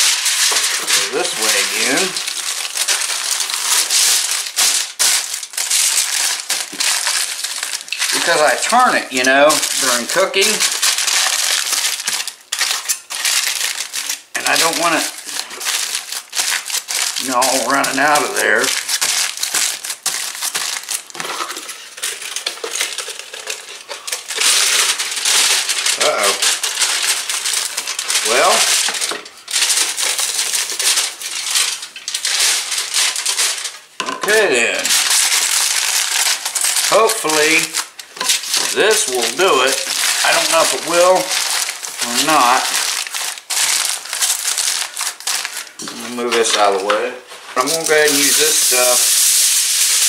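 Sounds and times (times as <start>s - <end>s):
aluminium foil crinkling: 0.0s - 50.0s.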